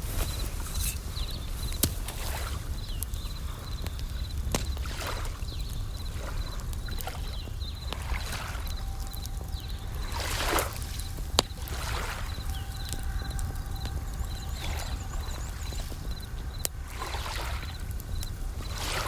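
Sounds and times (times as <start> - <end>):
campfire crackling and popping: 0.0 - 19.0
crickets chirping in trills: 0.0 - 19.0.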